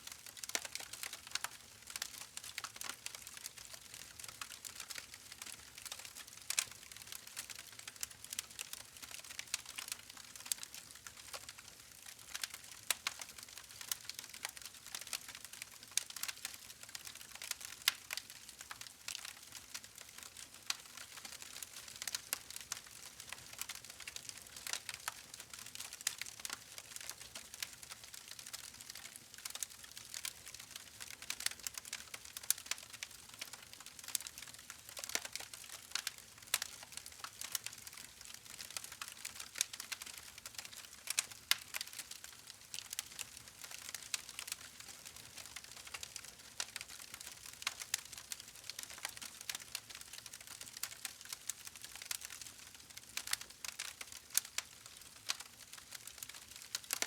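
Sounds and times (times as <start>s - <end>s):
campfire wood crackling: 0.2s - 57.0s.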